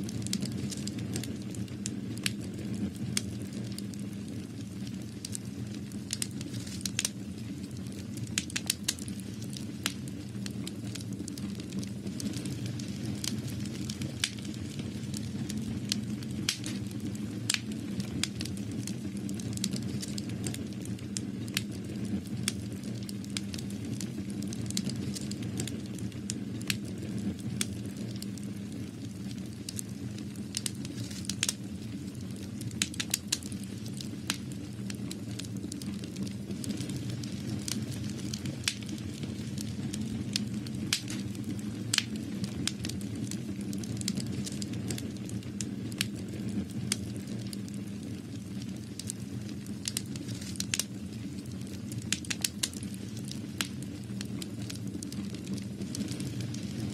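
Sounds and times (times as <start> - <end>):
fire crackling and popping: 0.0 - 56.9
low fire rumble: 0.0 - 56.9.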